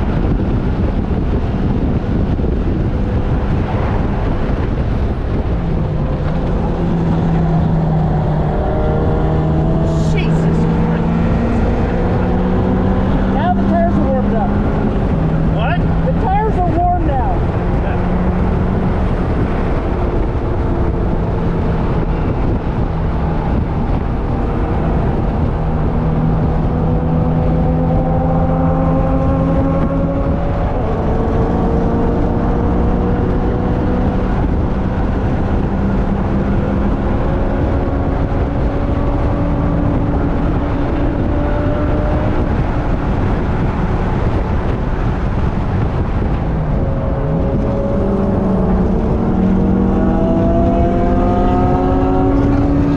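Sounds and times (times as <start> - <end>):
race car engine: 0.0 - 52.9
road noise: 0.0 - 52.9
wind noise: 0.0 - 52.9.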